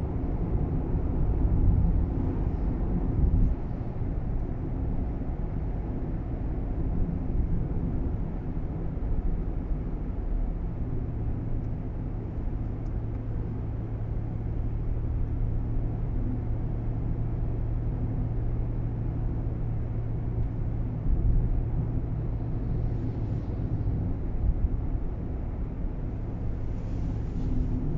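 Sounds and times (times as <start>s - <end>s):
car road and engine rumble: 0.0s - 27.9s.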